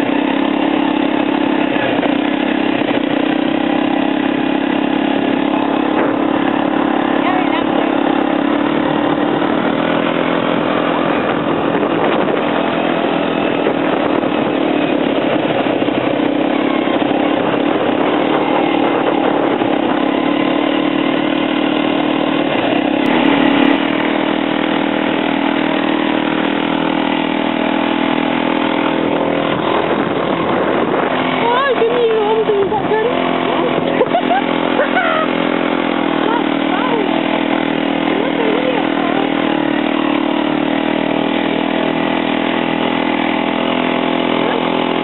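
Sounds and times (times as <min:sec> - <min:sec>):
quad bike engine running: 0:00.0 - 0:45.0.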